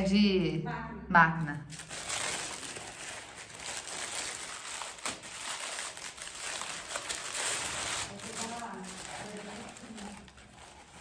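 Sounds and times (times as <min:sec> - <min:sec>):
gift wrapping crinkling: 0:01.4 - 0:11.0
sharp paper crackles: 0:01.7 - 0:11.0.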